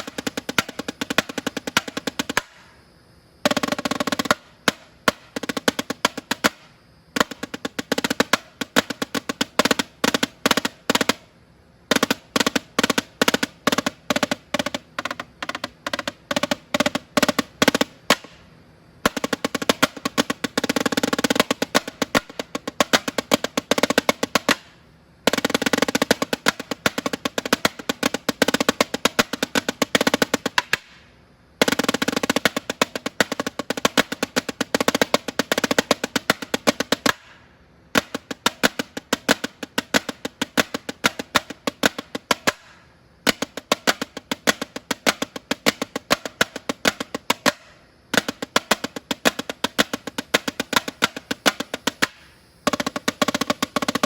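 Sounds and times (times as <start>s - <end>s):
snare drum rolls: 0.0s - 2.7s, 3.4s - 11.3s, 11.9s - 18.4s, 19.0s - 31.0s, 31.6s - 54.0s.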